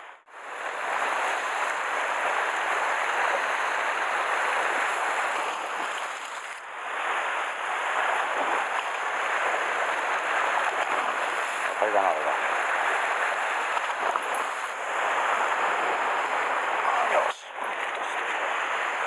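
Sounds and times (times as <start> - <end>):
sea surf on rocky shore: 0.3 - 19.0.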